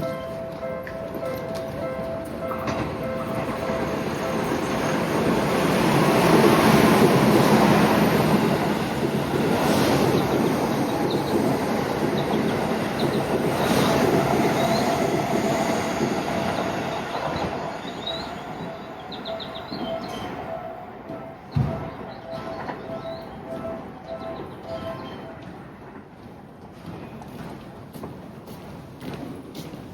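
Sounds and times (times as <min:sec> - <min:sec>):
train wheels rumbling on rail: 0:00.0 - 0:29.9.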